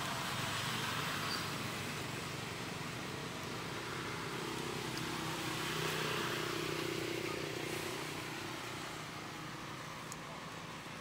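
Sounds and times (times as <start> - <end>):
outdoor noise: 0.0 - 11.0.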